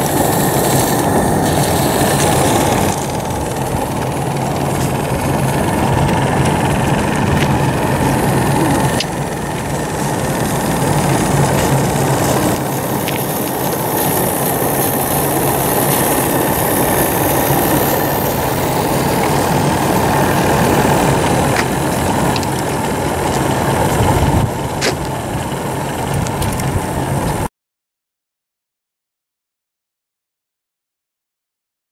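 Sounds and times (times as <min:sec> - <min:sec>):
steam hissing: 0:00.0 - 0:25.9
model steam truck mechanical hum: 0:00.0 - 0:27.5.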